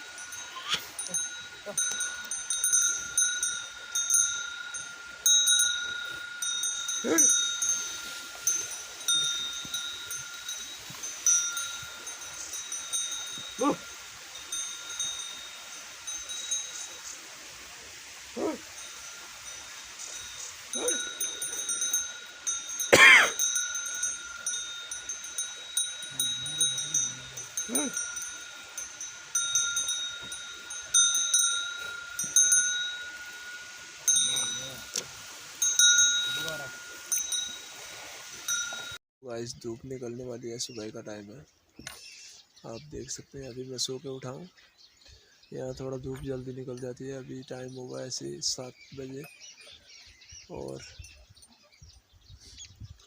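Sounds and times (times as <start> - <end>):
animal bells jingling: 0.0 - 53.0.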